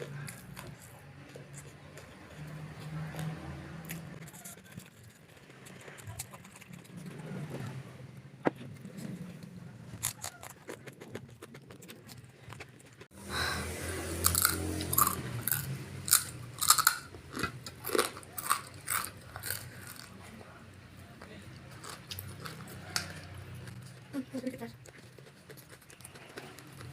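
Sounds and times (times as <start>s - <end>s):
person chewing crunchy food: 0.0s - 7.7s, 8.5s - 20.6s, 21.2s - 26.9s.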